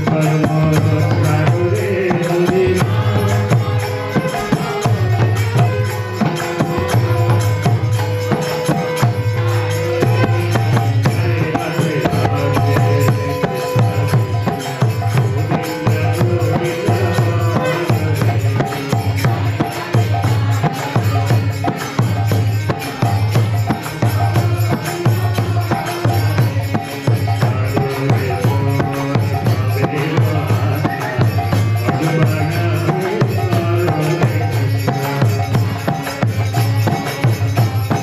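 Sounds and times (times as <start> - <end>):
hand drum beat: 0.0 - 38.0
harmonium chords: 0.0 - 38.0
jingling percussion: 0.0 - 38.0.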